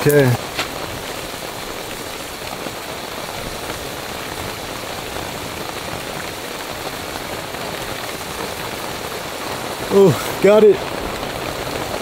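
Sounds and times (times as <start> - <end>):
heavy rain on tent fabric: 0.0 - 12.0.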